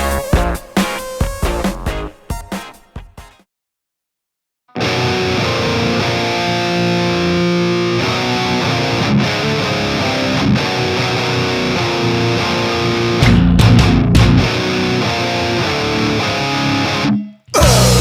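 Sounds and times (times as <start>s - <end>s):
distorted electric guitar rock: 0.0s - 3.4s, 4.8s - 18.0s.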